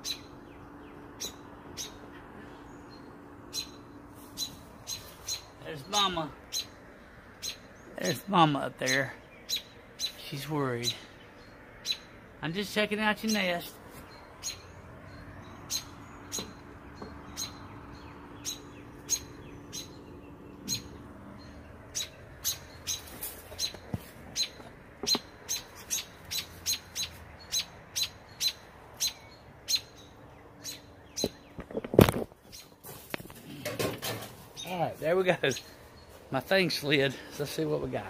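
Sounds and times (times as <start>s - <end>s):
small bird chirping sharply: 0.0s - 8.2s, 8.8s - 12.4s, 13.2s - 32.9s.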